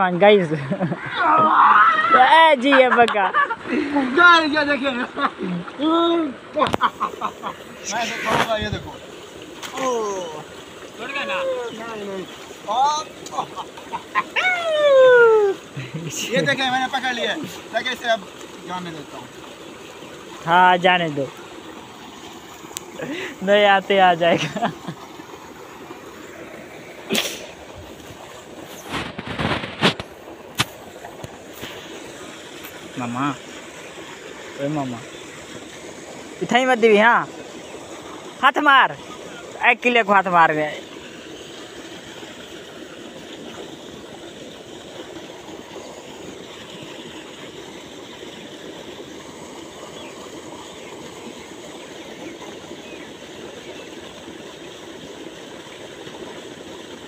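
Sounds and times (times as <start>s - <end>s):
water splashing: 0.0s - 57.0s.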